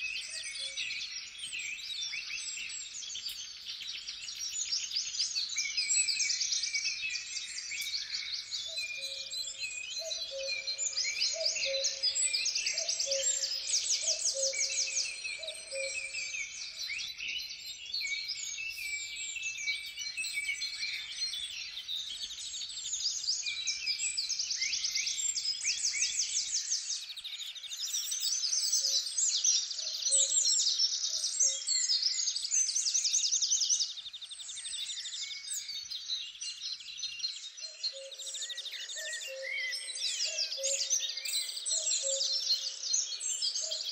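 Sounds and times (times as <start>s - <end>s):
songbirds trilling and chirping: 0.0s - 43.9s.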